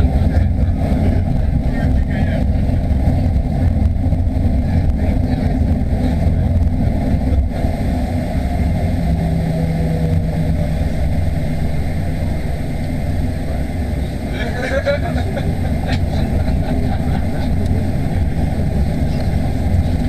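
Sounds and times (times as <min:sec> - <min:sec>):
jet engine drone: 0:00.0 - 0:20.0
wheel and airframe rumble: 0:00.0 - 0:20.0.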